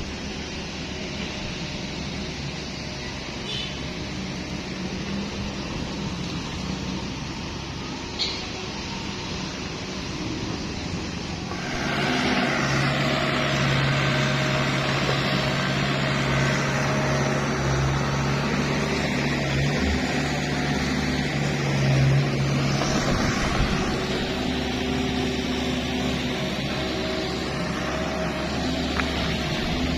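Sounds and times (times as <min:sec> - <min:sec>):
excavator diesel engine digging: 0:00.0 - 0:29.9.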